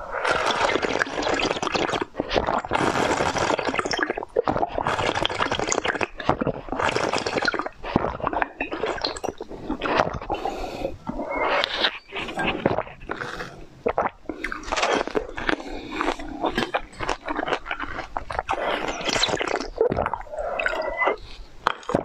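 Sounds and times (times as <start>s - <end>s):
person slurping a drink: 0.0s - 22.0s.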